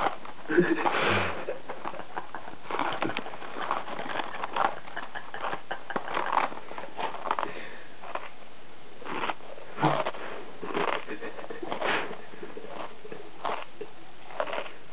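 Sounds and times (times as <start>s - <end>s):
chewing crunchy cereal: 0.0s - 8.4s, 9.0s - 14.9s.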